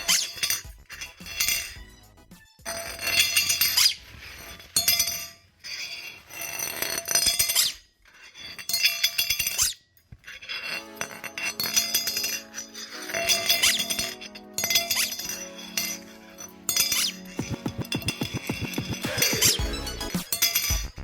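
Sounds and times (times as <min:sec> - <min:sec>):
hard toys clinking and rattling: 0:00.0 - 0:21.0.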